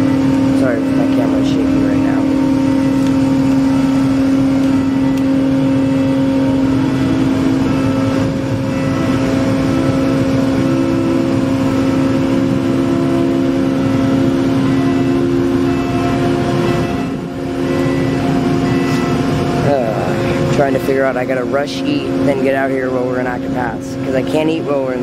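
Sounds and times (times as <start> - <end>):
higher machine tone: 0.0 - 25.0
ship engines humming: 0.0 - 25.0.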